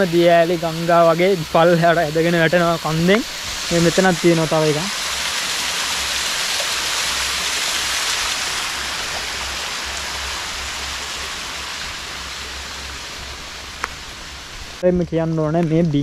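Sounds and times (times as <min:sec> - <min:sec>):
waterfall splashing on rock: 0:00.0 - 0:14.4.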